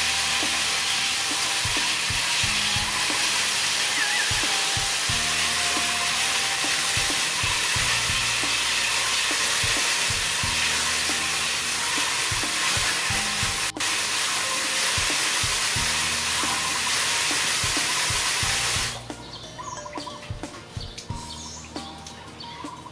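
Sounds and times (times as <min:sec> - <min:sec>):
hands rinsing in water: 0:00.0 - 0:19.1
water spray hissing into basin: 0:00.0 - 0:19.1.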